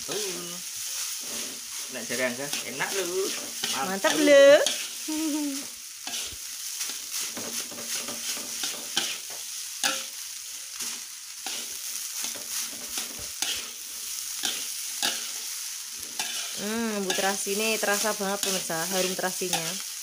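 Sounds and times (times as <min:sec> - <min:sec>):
metal spatula scraping a pan: 0:00.0 - 0:19.8
rice sizzling in a wok: 0:00.0 - 0:20.0.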